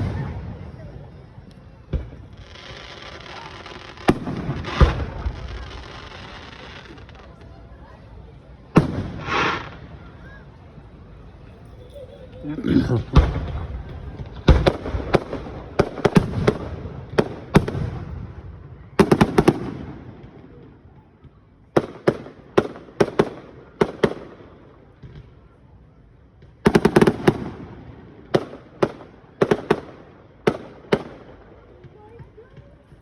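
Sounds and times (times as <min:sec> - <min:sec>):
fireworks bursting: 0:01.8 - 0:07.6, 0:08.6 - 0:10.4, 0:12.9 - 0:25.4, 0:26.4 - 0:33.0.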